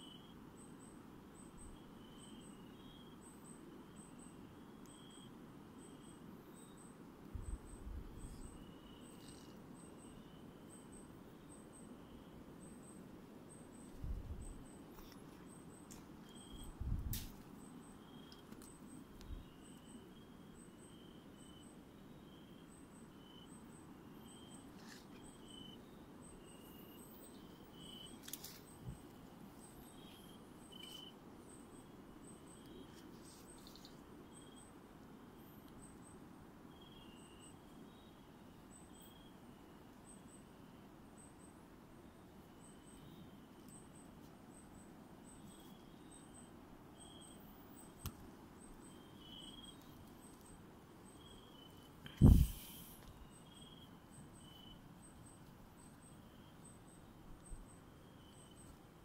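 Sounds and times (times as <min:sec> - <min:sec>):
insects and frogs calling: 0:00.0 - 0:59.0.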